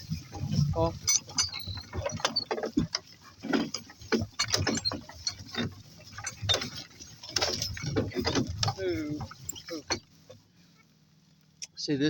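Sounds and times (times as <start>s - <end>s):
cart rattling and creaking: 0.0s - 11.0s.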